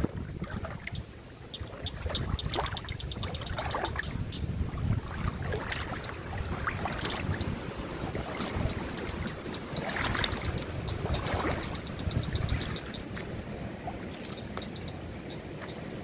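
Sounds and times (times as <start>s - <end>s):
creek water flowing: 0.0s - 16.0s
wind rumbling on microphone: 0.0s - 16.0s.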